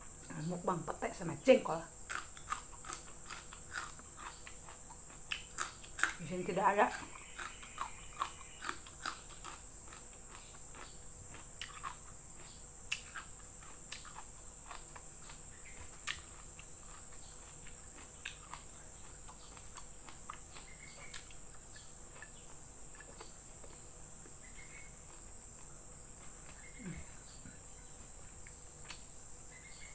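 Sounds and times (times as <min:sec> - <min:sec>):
chewing and smacking: 0:02.1 - 0:06.2, 0:06.9 - 0:27.0.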